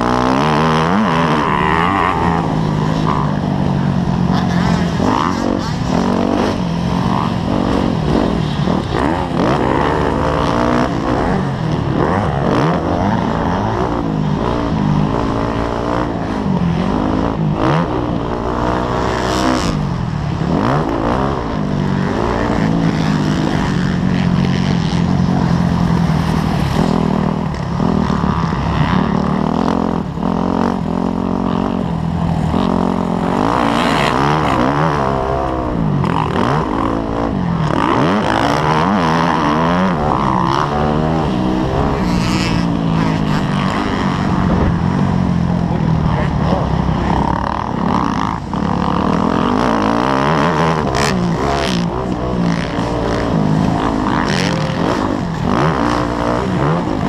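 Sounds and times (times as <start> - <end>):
dirt bike engine revving: 0.0 - 57.0
wind rushing over microphone: 0.0 - 57.0.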